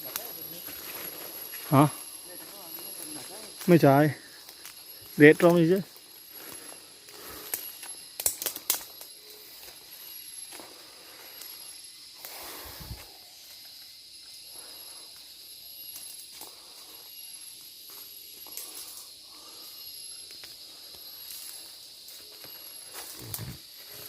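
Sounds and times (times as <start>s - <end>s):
insects droning: 0.0s - 24.0s
rustles in undergrowth: 0.0s - 24.0s.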